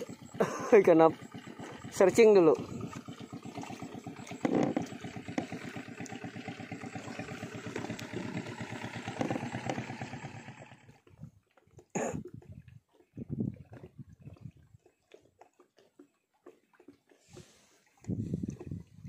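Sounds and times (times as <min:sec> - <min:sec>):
boat engine chugging: 0:00.0 - 0:19.0.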